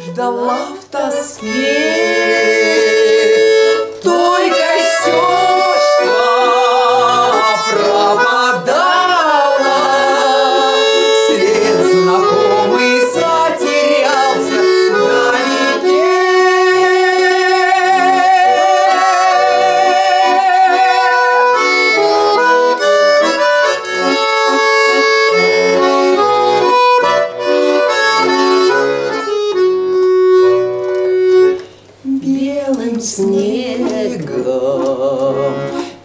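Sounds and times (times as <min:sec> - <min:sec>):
button accordion melody: 0:00.0 - 0:32.0, 0:33.0 - 0:36.0.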